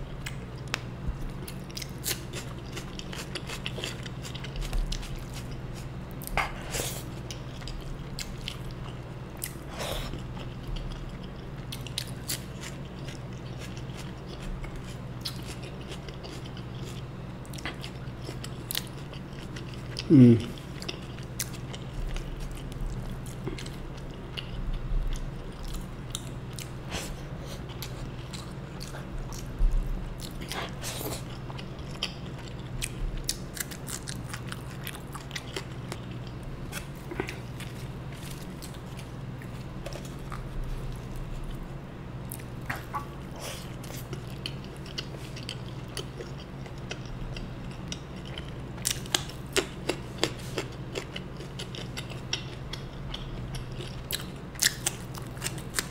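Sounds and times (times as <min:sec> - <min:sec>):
steady low hum: 0:00.0 - 0:55.9
chewing and wet mouth sounds: 0:00.2 - 0:55.9.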